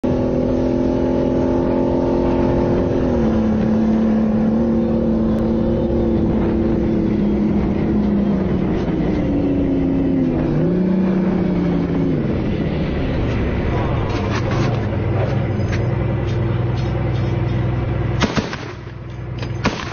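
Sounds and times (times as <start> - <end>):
armored vehicle engine running: 0.0 - 19.9.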